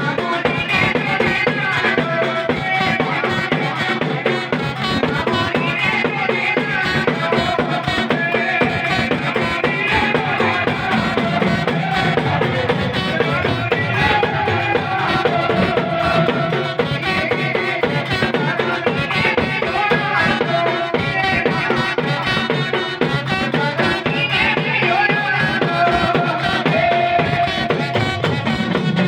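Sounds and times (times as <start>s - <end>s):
fast drum beat: 0.0s - 29.0s
folk devotional music: 0.0s - 29.0s.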